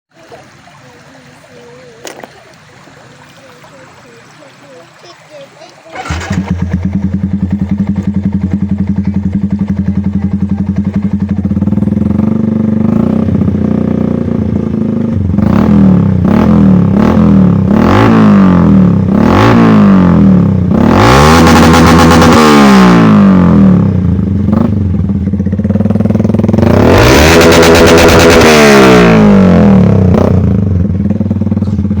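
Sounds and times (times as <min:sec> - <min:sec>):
motorcycle engine idling and revving: 0:05.9 - 0:32.0.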